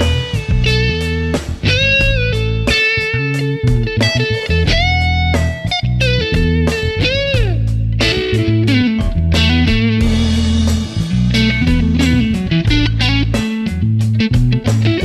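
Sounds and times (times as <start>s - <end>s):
electric guitar melody: 0.0s - 15.0s
low bass line: 0.0s - 15.0s.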